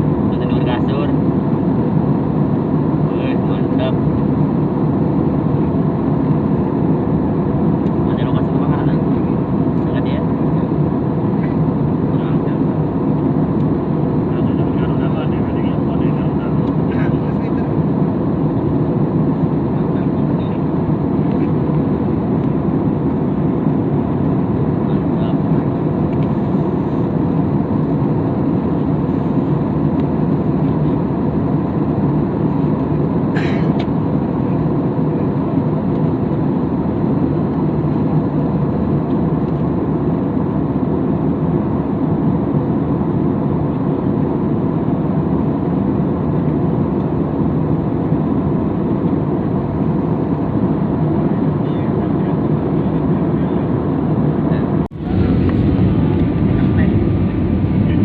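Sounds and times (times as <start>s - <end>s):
airliner cabin engine noise: 0.0s - 58.0s.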